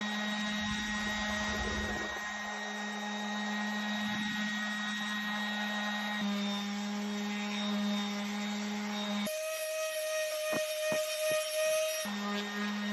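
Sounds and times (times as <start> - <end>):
power tool motor humming: 0.0 - 12.9.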